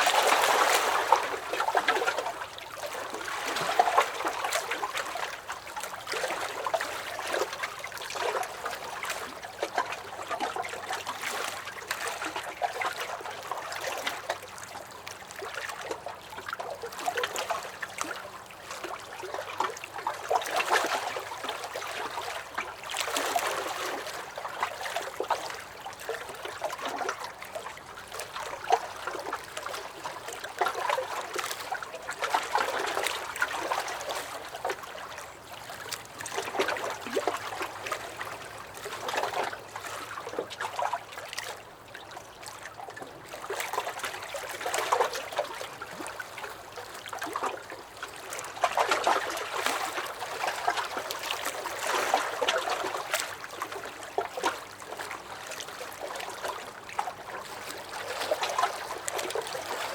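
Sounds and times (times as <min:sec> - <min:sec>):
waves lapping against a dock: 0:00.0 - 0:59.9.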